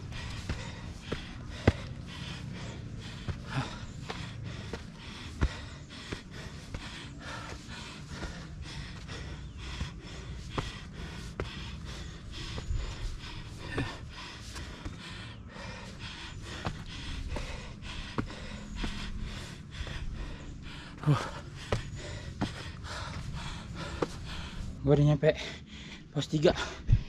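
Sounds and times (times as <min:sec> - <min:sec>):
person panting: 0:00.0 - 0:27.0.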